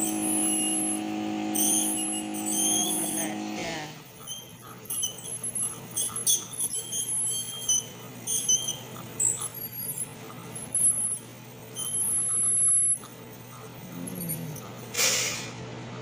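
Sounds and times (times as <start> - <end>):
dental scaler whining: 0.0 - 16.0
steady low hum: 0.0 - 16.0.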